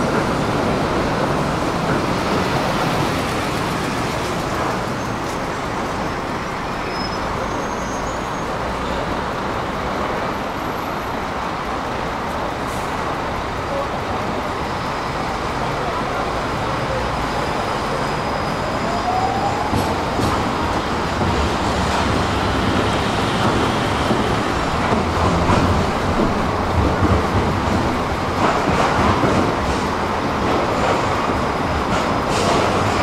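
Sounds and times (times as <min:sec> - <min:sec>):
tram rolling on track: 0:00.0 - 0:33.0.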